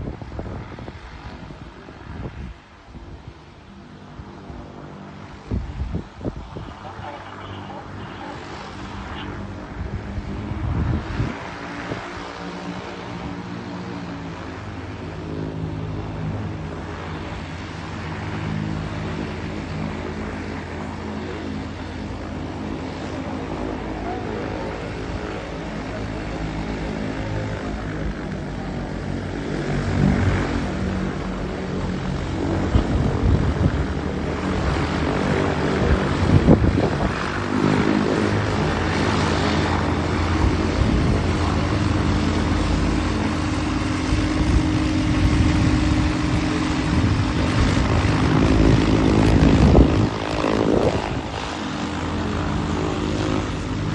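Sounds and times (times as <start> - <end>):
propeller aircraft engine droning: 0.0 - 53.9
wind buffeting microphone: 0.0 - 53.9.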